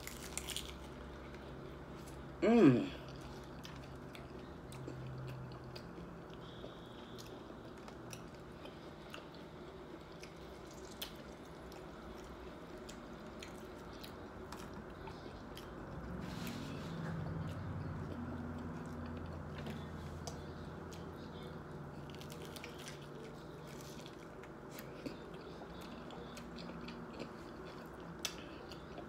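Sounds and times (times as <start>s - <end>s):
person chewing crunchy food: 0.0s - 2.4s, 3.0s - 29.0s.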